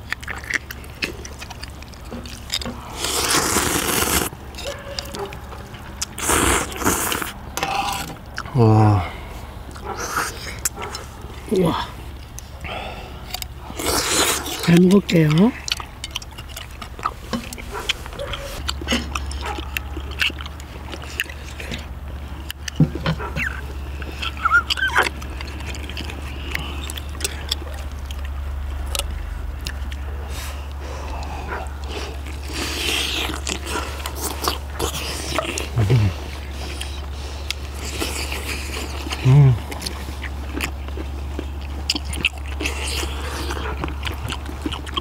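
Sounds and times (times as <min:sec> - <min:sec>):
chewing and slurping noodles: 0:00.0 - 0:08.6, 0:09.2 - 0:45.0
steady low hum: 0:00.0 - 0:45.0.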